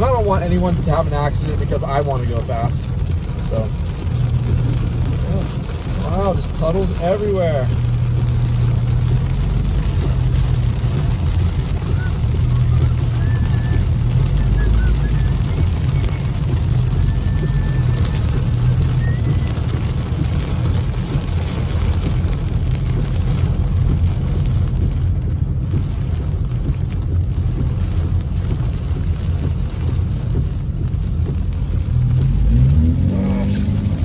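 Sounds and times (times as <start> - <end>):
car driving rumble inside cabin: 0.0 - 34.0
rain hitting car: 0.0 - 34.0
tyres hissing on wet pavement: 0.0 - 34.0.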